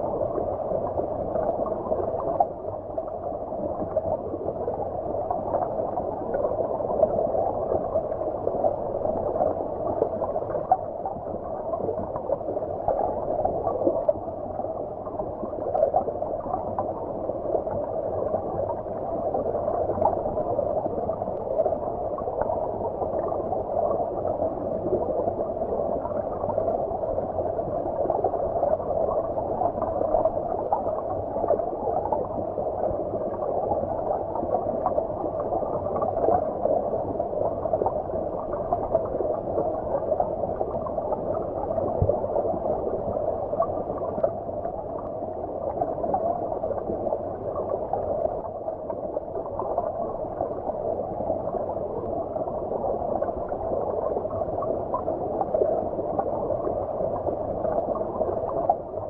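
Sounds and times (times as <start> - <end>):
muffled stream water gurgling: 0.0 - 59.0.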